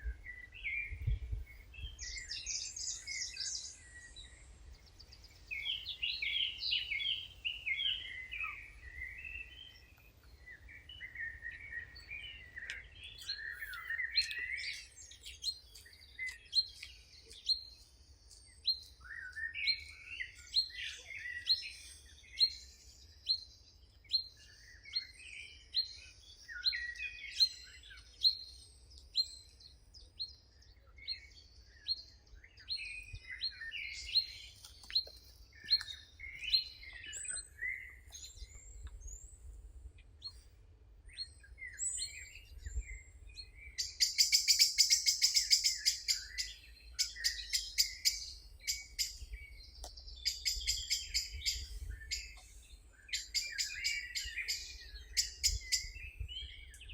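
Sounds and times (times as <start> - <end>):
birds singing and chattering: 0.0 - 56.9.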